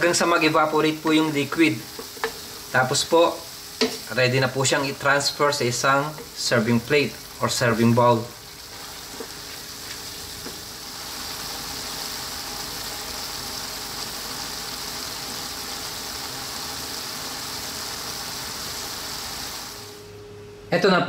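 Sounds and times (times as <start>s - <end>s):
stir-fry sizzling in pan: 0.0s - 20.2s.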